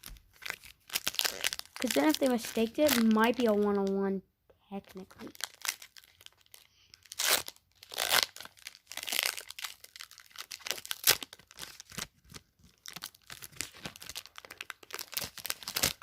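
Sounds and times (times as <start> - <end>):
cards and wrapper crinkling: 0.0 - 4.0, 4.8 - 16.0.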